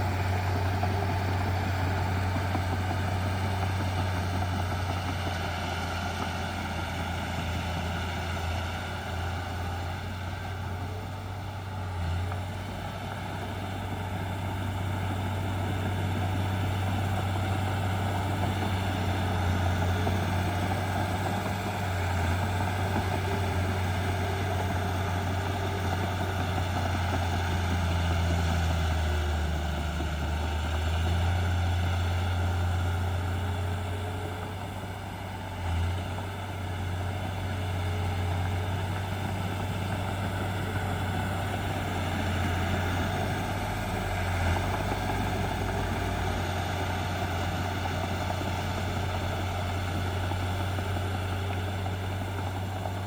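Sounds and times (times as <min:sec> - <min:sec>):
heavy diesel engine droning: 0:00.0 - 0:53.0.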